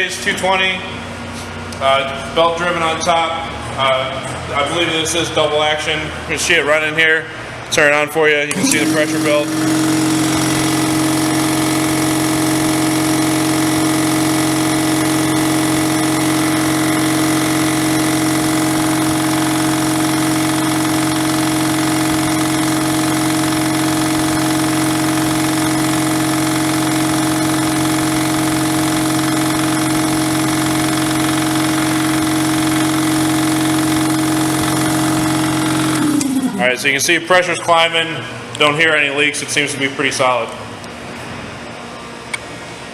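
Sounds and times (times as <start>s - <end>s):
air compressor running: 0.0s - 39.7s.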